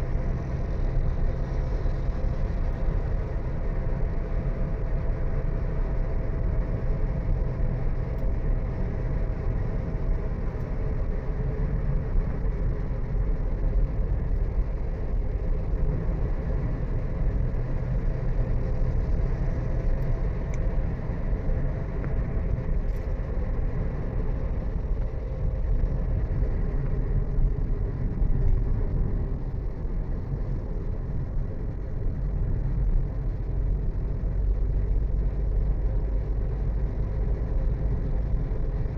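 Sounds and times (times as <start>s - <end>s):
vehicle driving on road: 0.0s - 38.9s.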